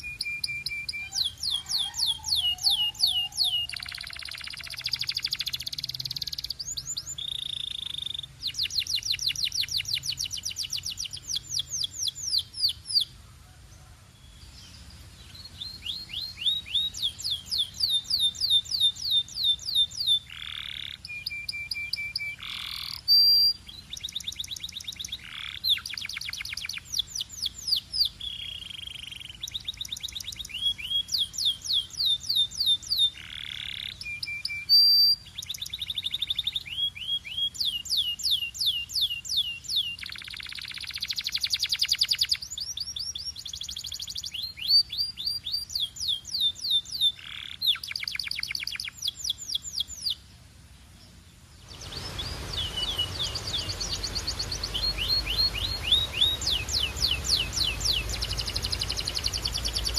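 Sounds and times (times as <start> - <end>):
canary singing trills: 0.0 - 13.2, 14.2 - 50.3, 51.6 - 59.9.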